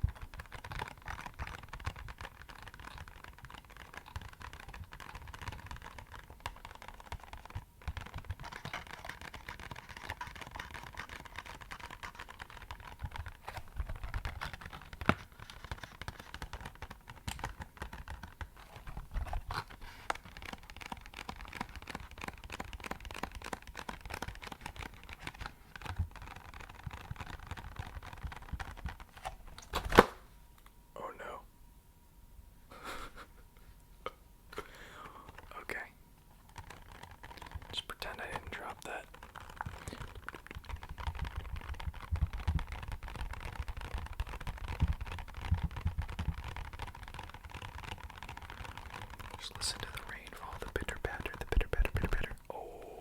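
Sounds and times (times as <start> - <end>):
rapid tapping on empty box: 0.0 - 29.4, 36.4 - 52.4.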